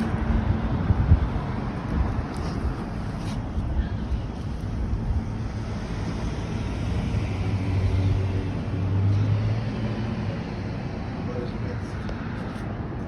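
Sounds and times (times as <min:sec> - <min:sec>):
outdoor background noise: 0:00.0 - 0:13.0
vehicle engine hum: 0:00.0 - 0:13.0.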